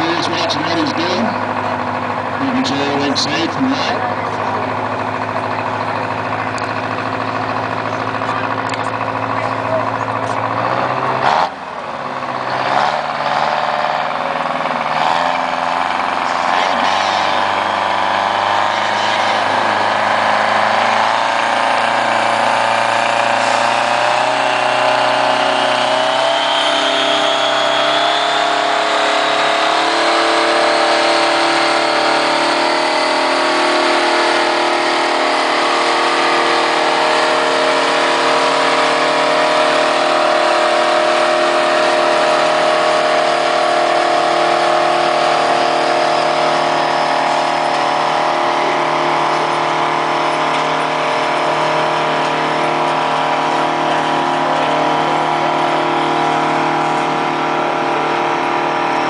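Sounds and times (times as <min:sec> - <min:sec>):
tractor engine at high revs: 0:00.0 - 0:59.0.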